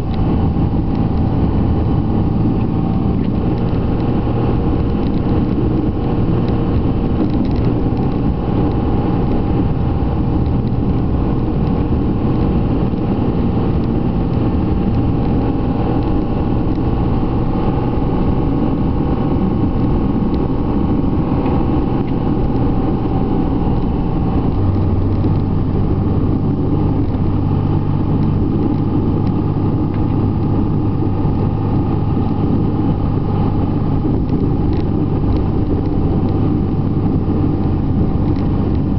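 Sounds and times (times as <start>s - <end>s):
diesel truck engine droning: 0.0s - 38.9s.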